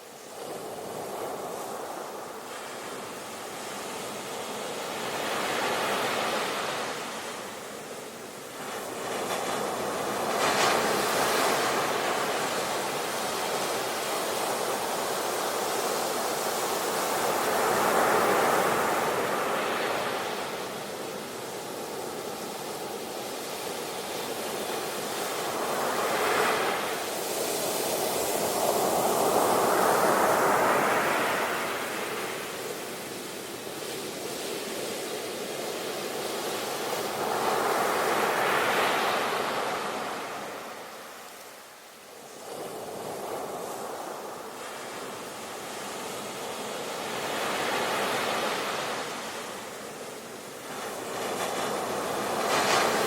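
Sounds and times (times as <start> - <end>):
ocean surf washing: 0.0 - 53.0
waves crashing: 0.0 - 53.0.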